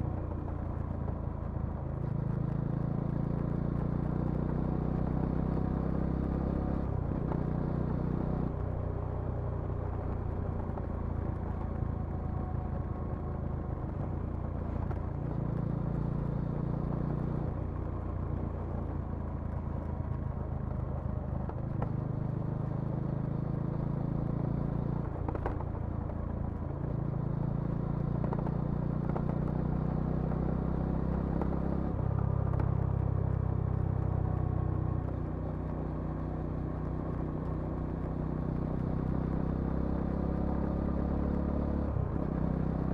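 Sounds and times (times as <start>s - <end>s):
motorcycle engine and exhaust: 0.0s - 42.9s.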